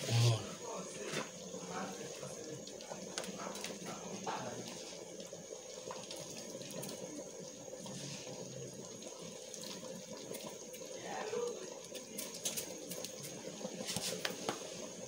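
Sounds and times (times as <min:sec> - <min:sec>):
pot simmering with bubbling hiss: 0:00.0 - 0:15.0.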